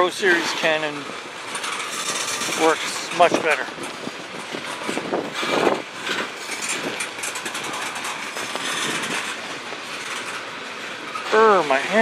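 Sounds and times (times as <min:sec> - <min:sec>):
train wheels clattering over rails: 0:00.0 - 0:12.0
wind noise on microphone: 0:01.0 - 0:11.1.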